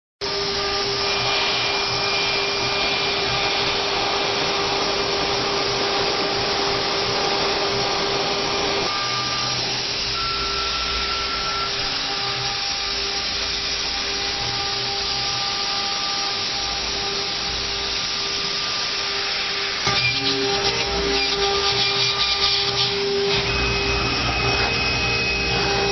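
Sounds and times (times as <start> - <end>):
engraving machine spindle whining: 0.2 - 25.9
hiss of bit cutting board: 0.2 - 25.9.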